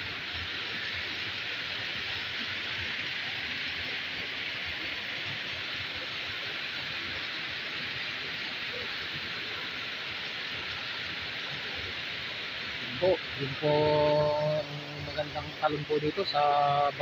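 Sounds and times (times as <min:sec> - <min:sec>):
waterfall cascading down rocks: 0:00.0 - 0:17.0.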